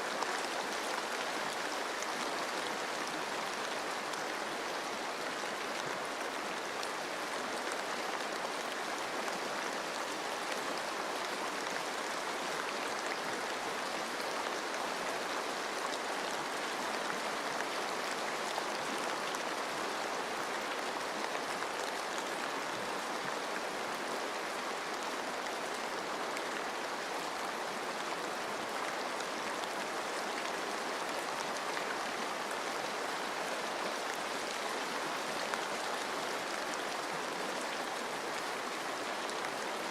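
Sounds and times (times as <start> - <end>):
running stream water: 0.0 - 39.9
steady rain falling: 0.0 - 39.9.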